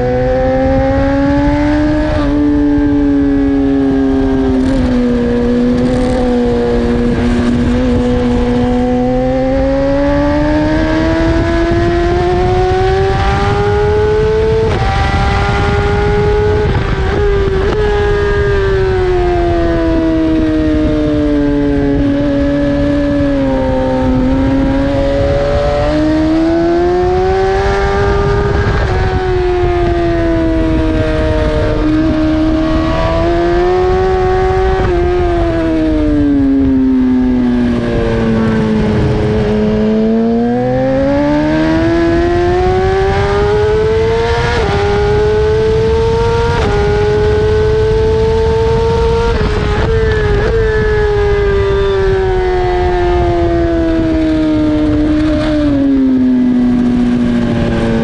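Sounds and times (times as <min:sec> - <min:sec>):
motorcycle engine at racing speed: 0:00.0 - 0:58.0
wind noise: 0:00.0 - 0:58.0.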